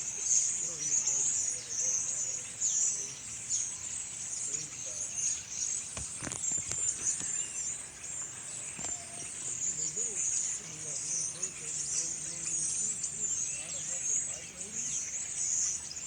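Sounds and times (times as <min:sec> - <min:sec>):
flock of birds calling: 0:00.0 - 0:16.0.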